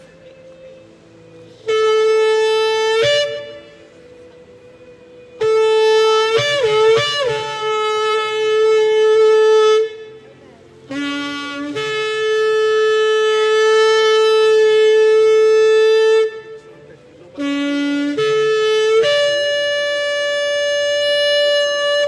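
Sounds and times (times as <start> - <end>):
shofar blasts: 1.2 - 10.2, 10.9 - 16.7, 17.3 - 22.0.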